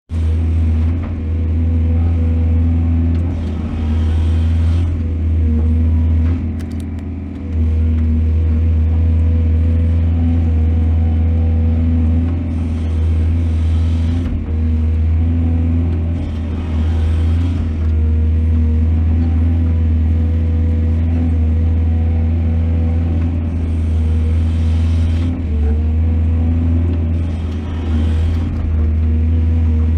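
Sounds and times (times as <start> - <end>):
excavator engine running: 0.1 - 29.9.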